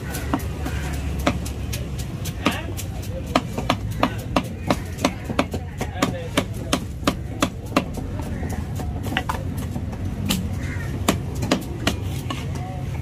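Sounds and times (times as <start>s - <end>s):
knife chopping on wooden block: 0.1s - 12.5s.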